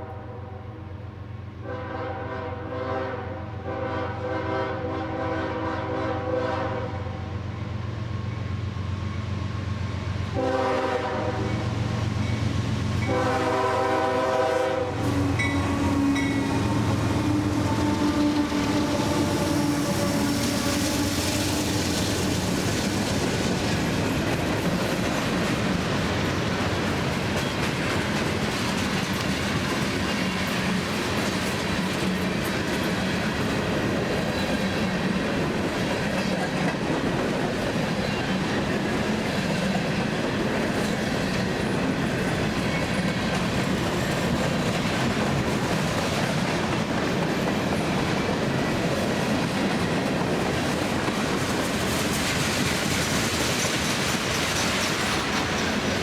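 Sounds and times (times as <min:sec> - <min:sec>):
freight train cars rolling past: 0:00.0 - 0:56.0.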